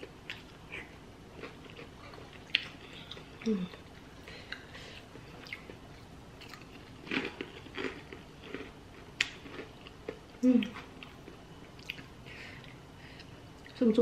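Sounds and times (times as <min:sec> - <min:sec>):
person chewing: 0:00.2 - 0:13.8.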